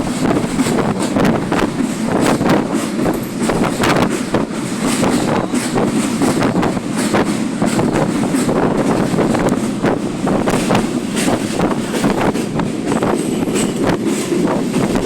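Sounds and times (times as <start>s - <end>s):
train wheels rumbling and clacking: 0.0s - 15.0s
wind on microphone: 0.0s - 15.0s.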